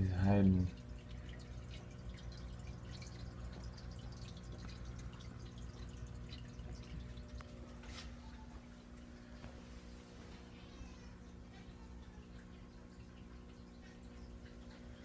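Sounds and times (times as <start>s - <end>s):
aquarium water bubbling: 0.0s - 15.0s
low steady hum: 0.0s - 15.0s.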